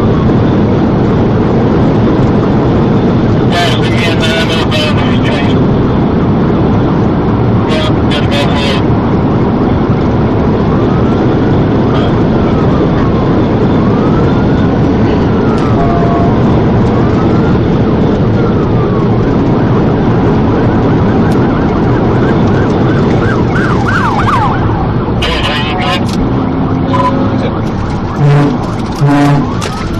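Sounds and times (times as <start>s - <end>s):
car engine and road noise: 0.0s - 29.9s
police siren wailing: 0.0s - 29.9s.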